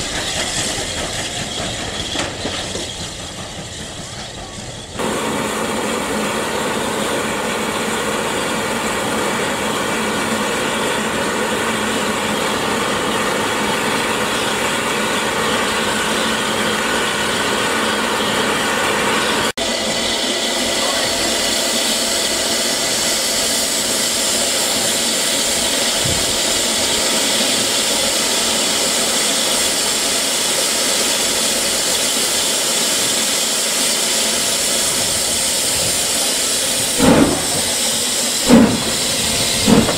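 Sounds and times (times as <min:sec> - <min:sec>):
steam hissing from locomotive: 0:00.0 - 0:39.9.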